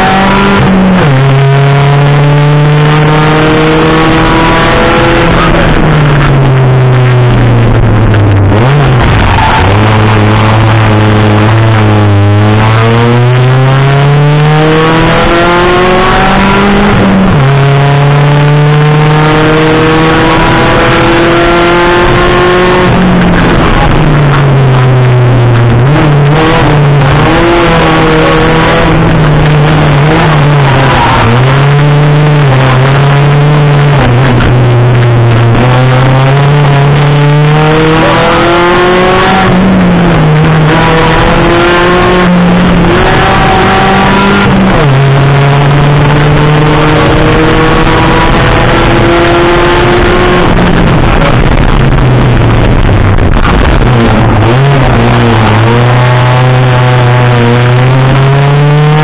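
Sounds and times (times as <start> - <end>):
rally car engine at full throttle: 0.0 - 59.0.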